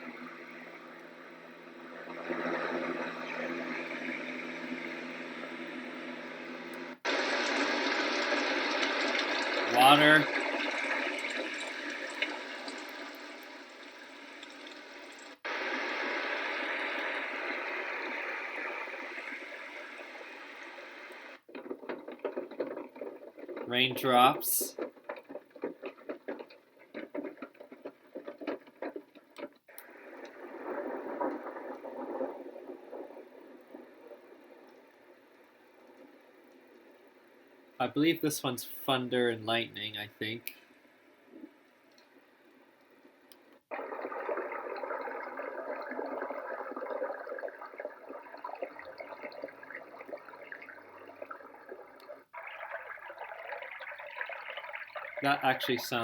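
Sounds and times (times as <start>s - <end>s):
recorded rushing water through speaker: 0.0s - 40.7s, 43.3s - 56.0s.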